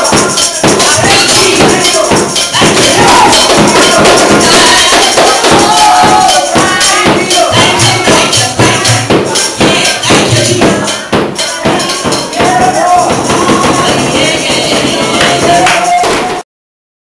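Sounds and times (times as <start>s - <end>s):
fast tambourine rhythm: 0.0s - 16.4s
upbeat gospel music: 0.0s - 16.4s.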